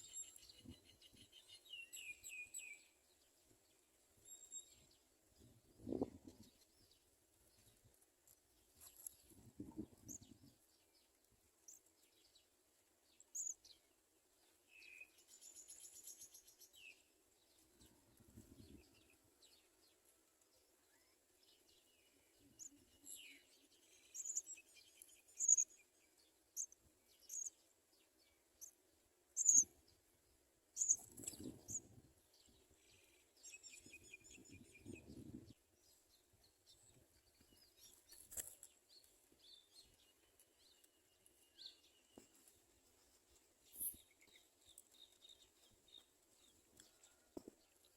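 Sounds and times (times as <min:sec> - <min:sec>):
sparrows chirping: 0:00.0 - 0:11.1, 0:11.7 - 0:30.0, 0:30.7 - 0:47.9.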